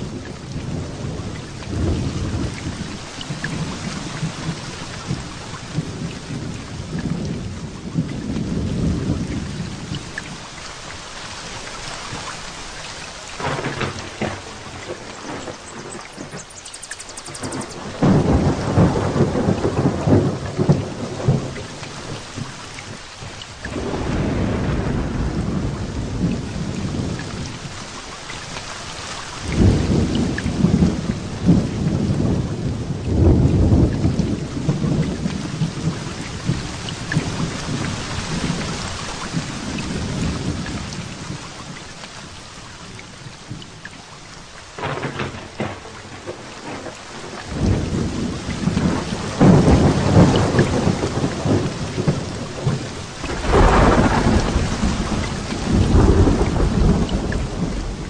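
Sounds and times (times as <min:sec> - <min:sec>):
thunder rumbling: 0:00.0 - 0:10.0, 0:13.4 - 0:22.6, 0:23.7 - 0:27.8, 0:29.4 - 0:41.5, 0:44.8 - 0:58.0
heavy rain: 0:00.0 - 0:58.0.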